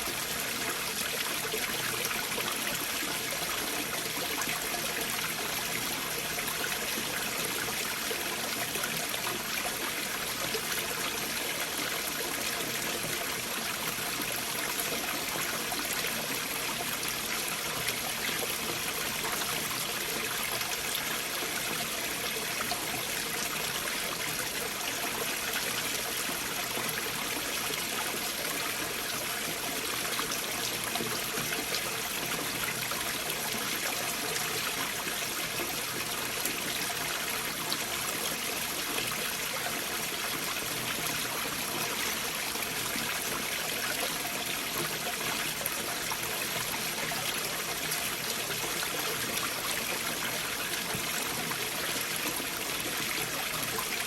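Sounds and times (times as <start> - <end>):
stream running water: 0.0 - 54.0.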